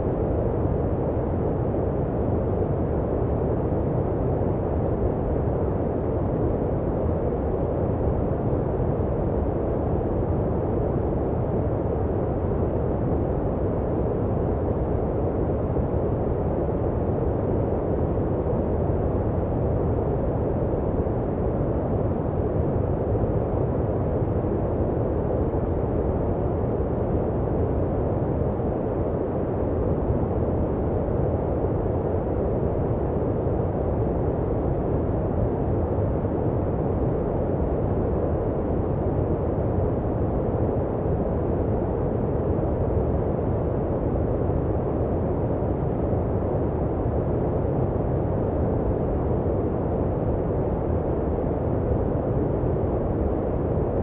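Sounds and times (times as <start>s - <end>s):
deep muffled white noise: 0.0s - 54.0s.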